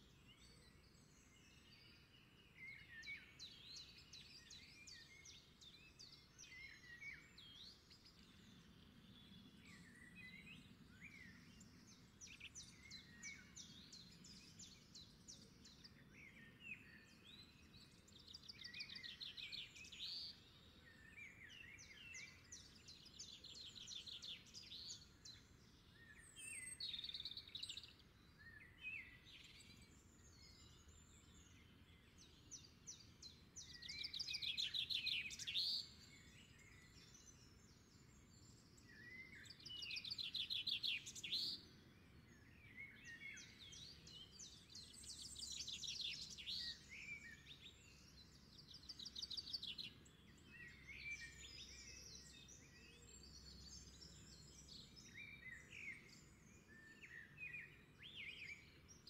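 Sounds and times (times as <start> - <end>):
small birds singing and calling: 0.0 - 59.0.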